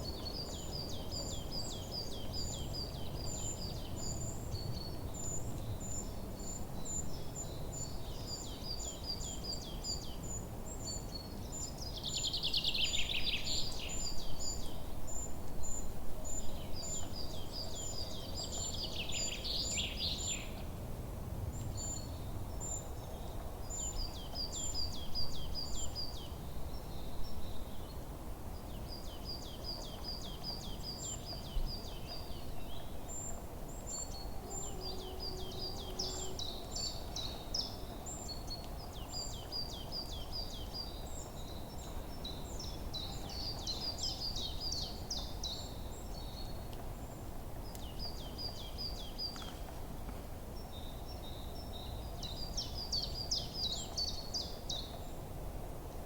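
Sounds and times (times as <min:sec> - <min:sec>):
loud busy birdsong: 0:00.0 - 0:20.8, 0:21.4 - 0:56.0.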